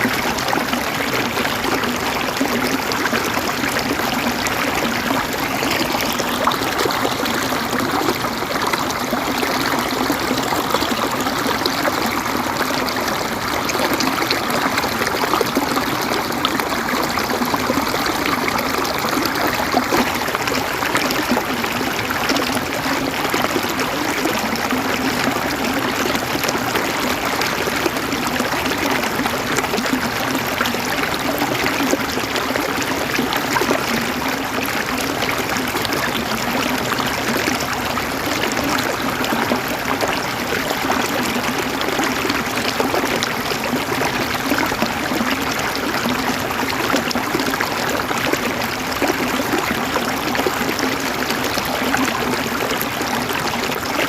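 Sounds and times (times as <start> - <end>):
river water running over stones: 0.0 - 54.0.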